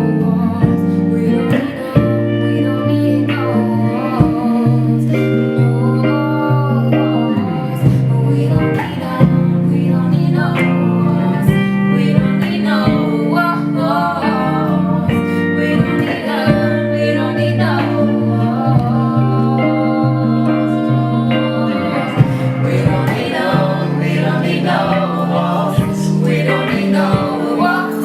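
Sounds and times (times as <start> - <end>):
guitar and band playing: 0.0 - 28.0
person singing: 0.0 - 28.0.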